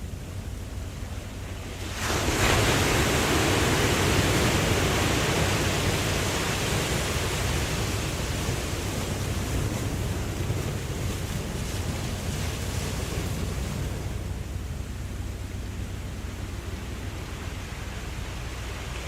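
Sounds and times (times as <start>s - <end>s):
wave wash: 0.0s - 19.0s
ocean wave breaking: 0.8s - 19.0s.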